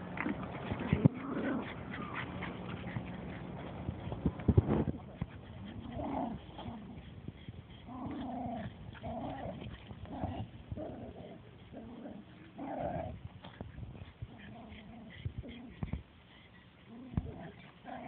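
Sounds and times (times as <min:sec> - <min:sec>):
small dogs play-growling: 0:00.0 - 0:18.0.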